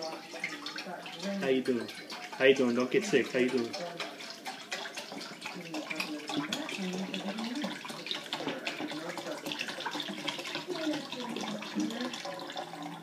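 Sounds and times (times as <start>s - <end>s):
broth pouring into saucepan: 0.0s - 13.0s.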